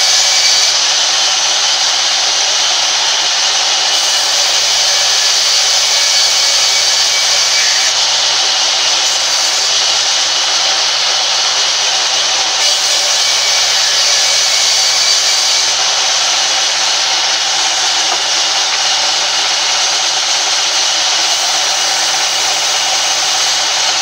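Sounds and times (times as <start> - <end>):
blade saw cutting wood: 0.0 - 24.0.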